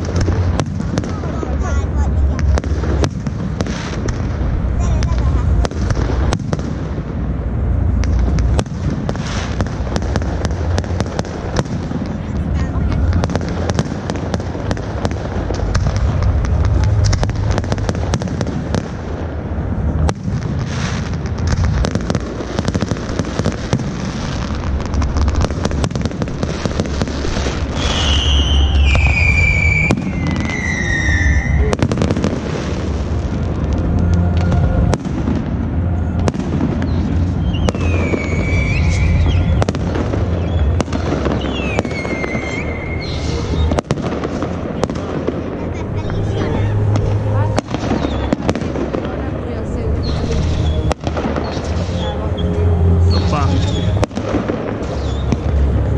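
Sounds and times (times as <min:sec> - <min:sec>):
fireworks booming and crackling: 0:00.0 - 0:55.9
fireworks descending whistles: 0:08.0 - 0:49.2, 0:50.0 - 0:55.9.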